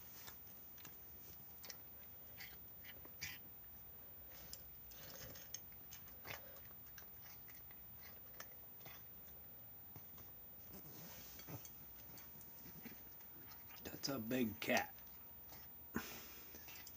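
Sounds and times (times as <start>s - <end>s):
cat chewing food: 0.0s - 16.9s.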